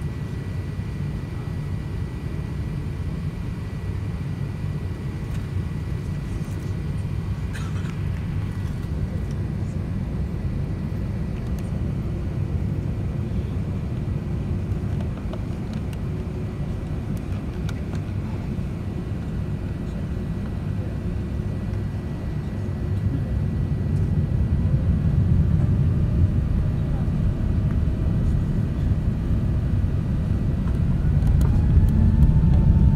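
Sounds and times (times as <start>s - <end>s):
low rumble of airplane engines: 0.0s - 32.9s.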